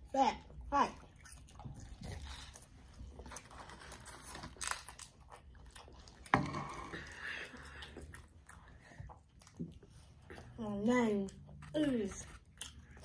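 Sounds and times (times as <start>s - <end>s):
chewing crunchy fries: 0.0s - 13.0s.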